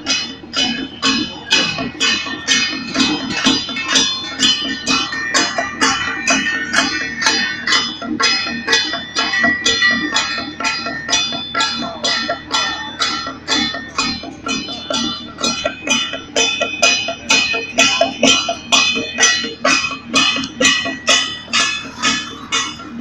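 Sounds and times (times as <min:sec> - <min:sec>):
gongs struck in steady beat: 0:00.0 - 0:23.0.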